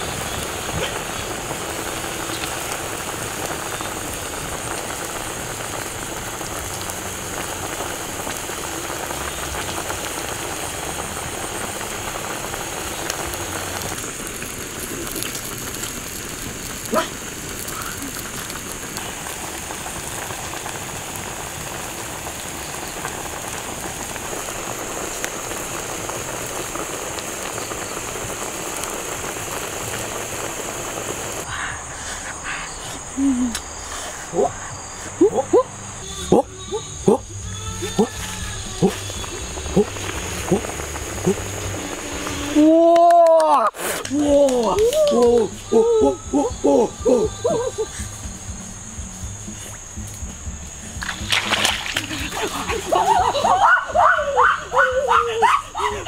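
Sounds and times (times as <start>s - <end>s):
high steady whine: 0.0s - 56.0s.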